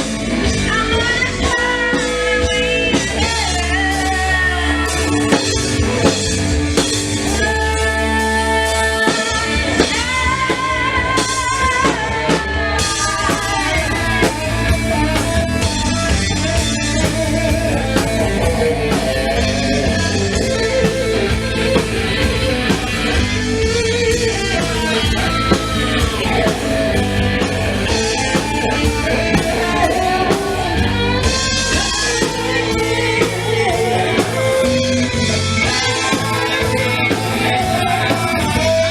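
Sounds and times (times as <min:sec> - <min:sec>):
live rock band playing: 0:00.0 - 0:38.9
person singing: 0:00.1 - 0:38.9.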